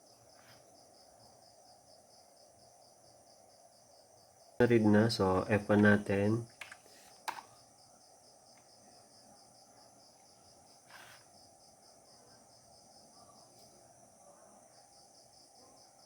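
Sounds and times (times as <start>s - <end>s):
faint cricket chirping: 0.0s - 16.0s.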